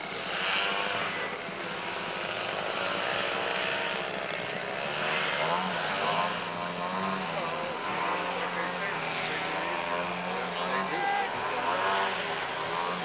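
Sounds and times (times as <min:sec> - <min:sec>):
model airplane engine: 0:00.0 - 0:13.0.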